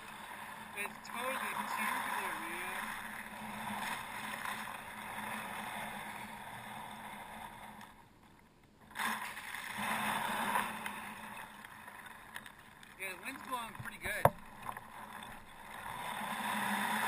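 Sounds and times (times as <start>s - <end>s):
water splashing around kayak: 0.0s - 8.1s, 8.8s - 17.0s.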